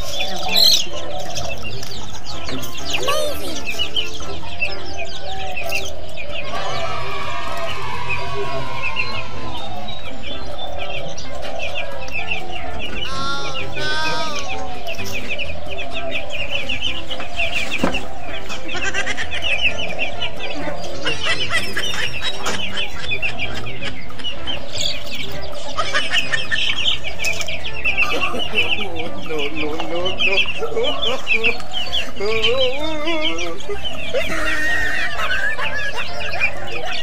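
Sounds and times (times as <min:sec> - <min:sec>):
chicks peeping: 0:00.0 - 0:37.0
hens clucking: 0:00.0 - 0:37.0.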